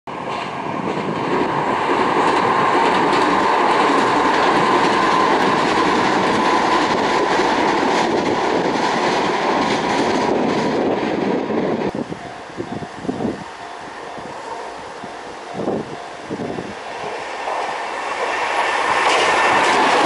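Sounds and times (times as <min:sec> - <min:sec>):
train wheel and rail noise: 0:00.1 - 0:20.0.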